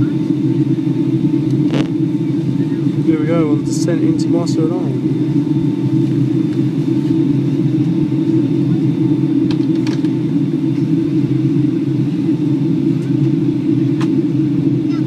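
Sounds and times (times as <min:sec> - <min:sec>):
airliner cabin roar: 0:00.0 - 0:15.0.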